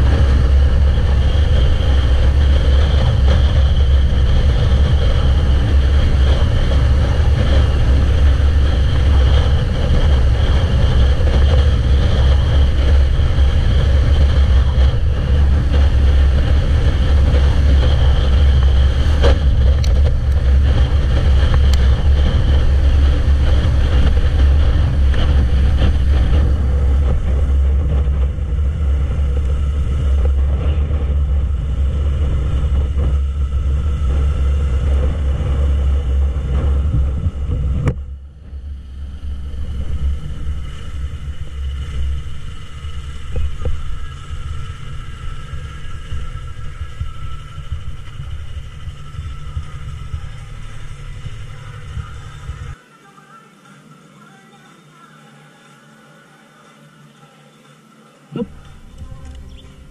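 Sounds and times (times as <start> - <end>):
motorcycle engine running: 0.0 - 52.8, 58.3 - 59.9
wind rumble on microphone: 0.0 - 52.8, 58.3 - 59.9.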